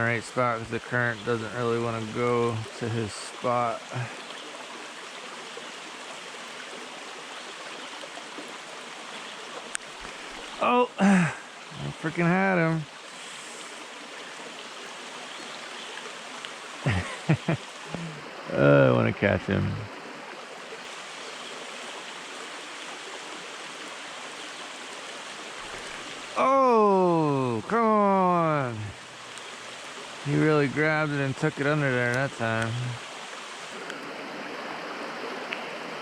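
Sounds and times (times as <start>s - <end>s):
stream running: 0.0s - 36.0s.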